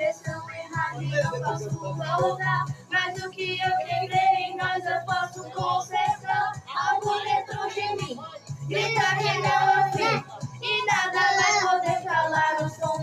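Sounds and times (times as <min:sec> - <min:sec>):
backing track with low bass: 0:00.0 - 0:13.0
young woman singing pop song: 0:00.0 - 0:13.0.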